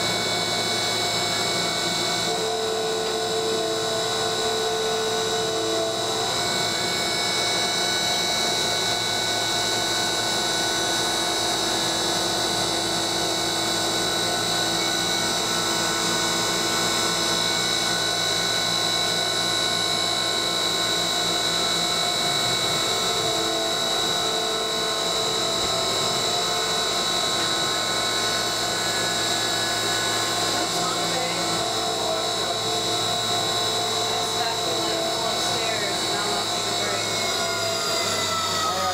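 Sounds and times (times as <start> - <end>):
mill spindle whine cutting metal: 0.0 - 38.9.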